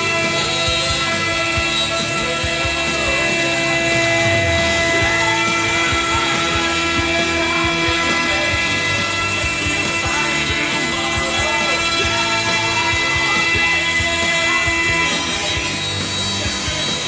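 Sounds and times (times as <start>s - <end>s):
rock music: 0.0s - 17.0s
router spindle whining cutting wood: 0.0s - 17.0s.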